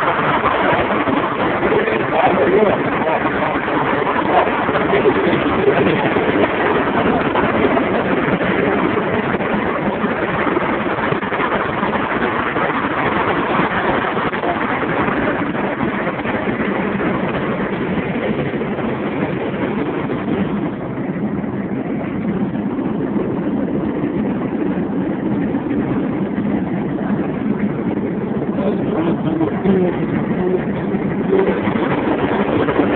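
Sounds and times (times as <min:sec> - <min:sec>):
passing traffic: 0:00.0 - 0:32.9
road and wind noise in car: 0:00.0 - 0:32.9.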